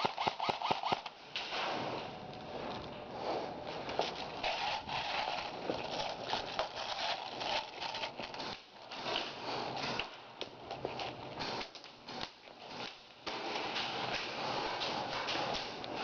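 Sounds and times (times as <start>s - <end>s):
rustling and scraping: 1.4s - 16.0s.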